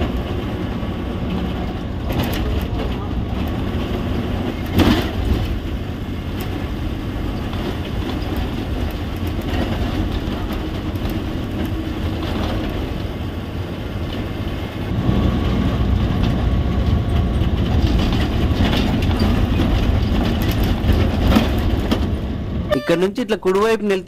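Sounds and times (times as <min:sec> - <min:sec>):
bus body rattling: 0:00.0 - 0:22.9
bus engine and road rumble: 0:00.0 - 0:24.0.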